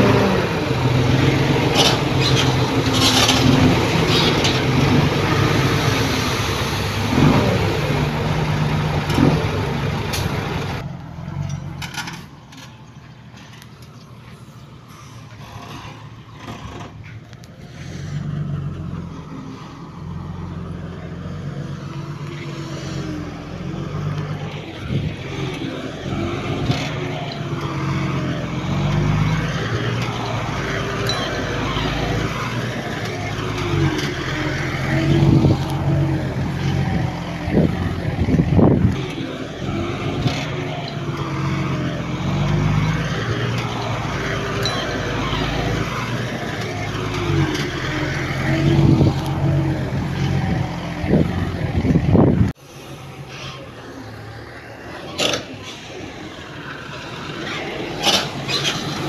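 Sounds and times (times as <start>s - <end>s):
heavy machinery diesel engine: 0.0s - 59.0s.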